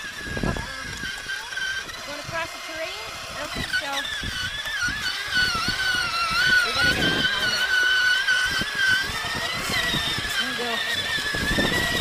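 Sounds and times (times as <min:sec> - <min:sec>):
plastic wheels knocking: 0:00.0 - 0:12.0
toy electric motor whining: 0:00.0 - 0:12.0.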